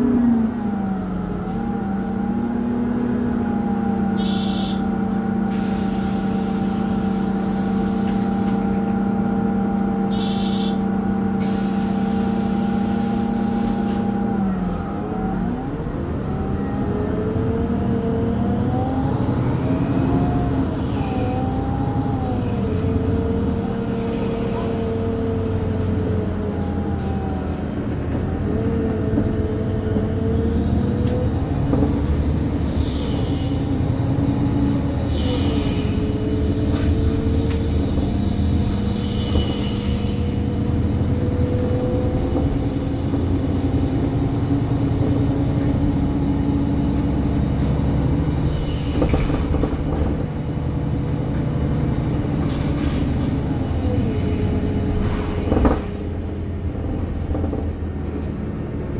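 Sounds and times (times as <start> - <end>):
bus engine drone: 0.0 - 58.9.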